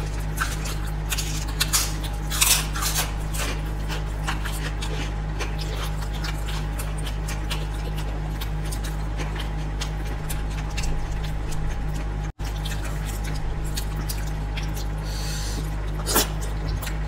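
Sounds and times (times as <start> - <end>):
chewing and mouth smacks: 0.0 - 17.0
steady low hum: 0.0 - 17.0.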